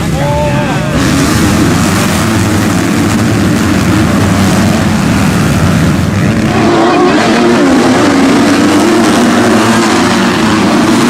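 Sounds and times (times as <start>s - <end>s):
motorcycle engines at high revs: 0.0s - 11.0s.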